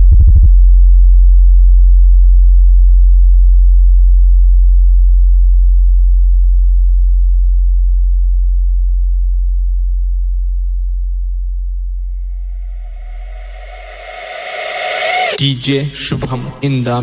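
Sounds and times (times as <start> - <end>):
deep sub-bass sine tone: 0.0 - 15.4
stuttering bass pulse: 0.0 - 15.4.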